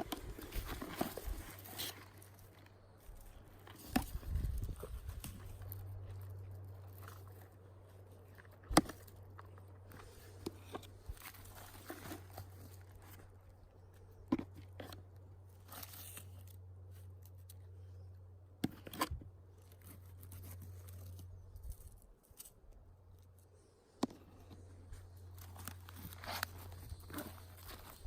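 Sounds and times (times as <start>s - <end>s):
twigs crunching and snapping: 0.0s - 17.7s, 18.6s - 28.0s
steady low hum: 0.0s - 28.0s.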